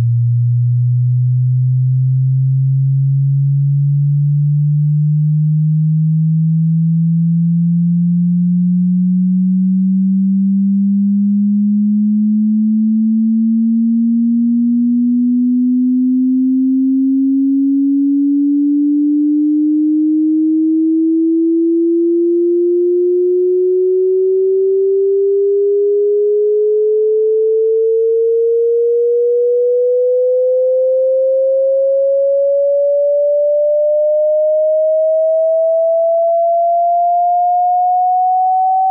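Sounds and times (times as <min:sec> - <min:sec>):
rising sine-wave tone: 0:00.0 - 0:38.9.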